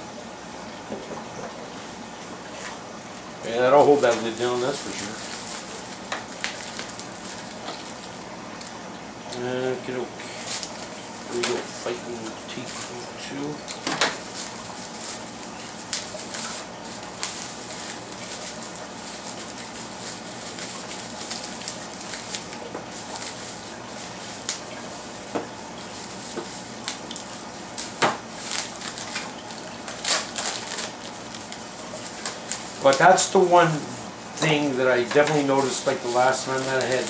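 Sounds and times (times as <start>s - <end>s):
bubble wrap crinkling and clicking: 3.8s - 9.5s, 10.2s - 37.0s.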